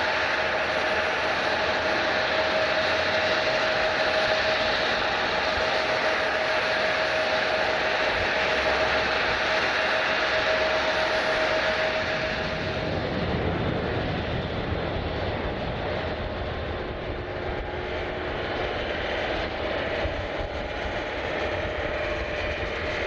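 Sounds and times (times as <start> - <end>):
jet engines running: 0.0 - 23.0
thin engine whine: 0.0 - 23.0.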